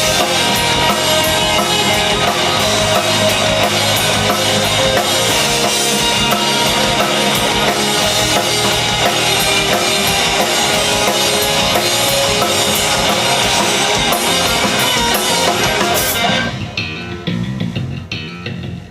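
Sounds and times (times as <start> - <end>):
chord ringing: 0.0 - 16.7
live rock band playing: 0.0 - 18.9.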